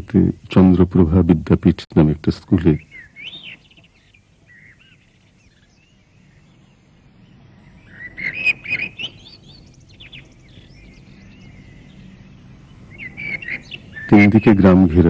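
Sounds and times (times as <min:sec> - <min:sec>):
low steady background hum: 0:00.0 - 0:15.0
small birds chirping: 0:00.0 - 0:15.0.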